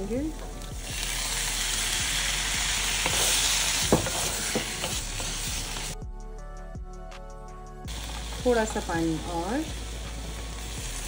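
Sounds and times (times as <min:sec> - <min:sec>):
food sizzling in hot oil: 0:00.0 - 0:06.0, 0:07.9 - 0:11.0.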